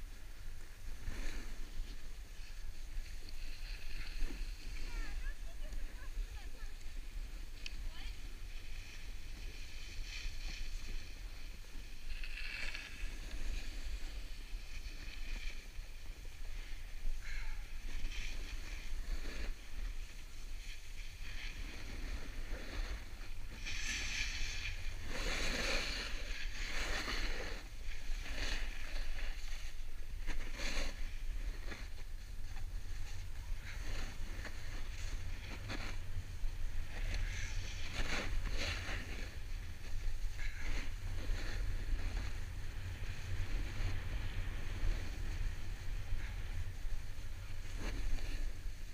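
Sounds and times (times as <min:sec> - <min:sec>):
low wind rumble on microphone: 0:00.0 - 0:48.9
snowboard hissing on snow: 0:00.0 - 0:48.9
snowboard edge scrapes: 0:00.1 - 0:48.9.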